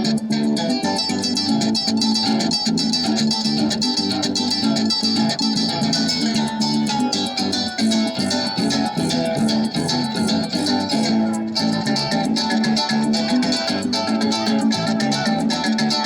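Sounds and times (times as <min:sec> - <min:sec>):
harp plucked notes: 0:00.0 - 0:16.0
repeated bass line: 0:00.0 - 0:16.0.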